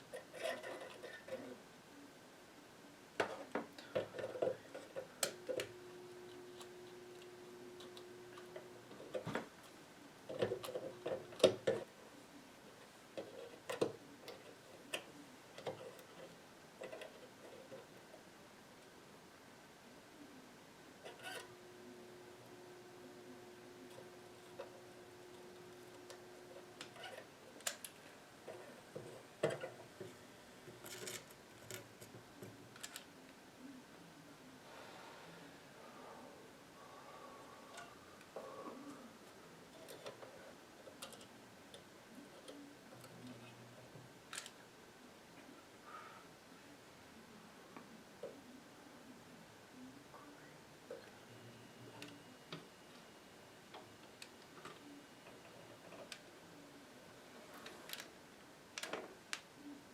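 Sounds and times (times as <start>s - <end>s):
faint steady tone: 0.0s - 59.9s.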